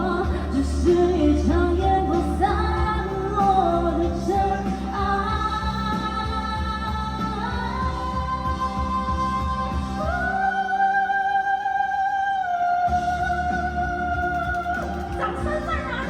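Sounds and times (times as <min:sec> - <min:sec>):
pop backing track: 0:00.0 - 0:16.0.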